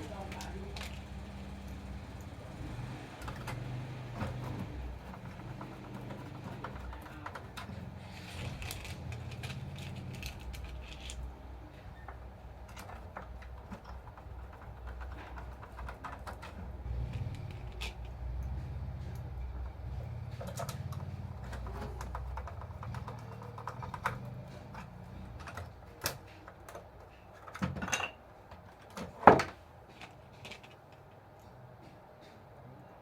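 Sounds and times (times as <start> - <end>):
small parts and tools clicking: 0.0 - 31.6.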